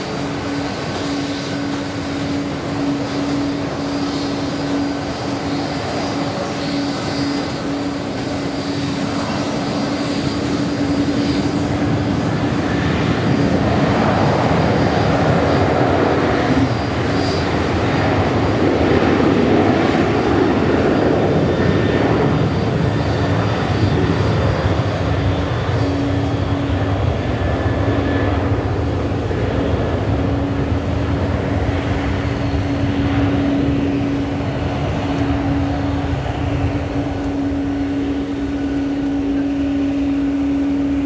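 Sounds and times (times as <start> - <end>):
jet engines humming: 0.0 - 41.0
rushing jet roar: 0.0 - 41.0.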